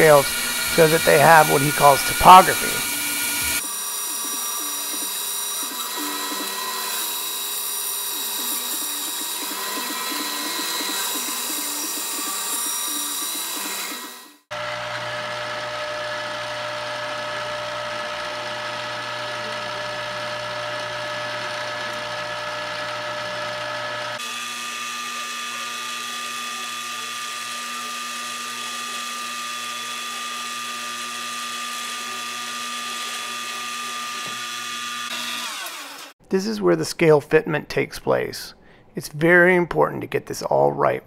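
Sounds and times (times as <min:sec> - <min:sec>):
power tool humming and whining: 0:00.0 - 0:36.2.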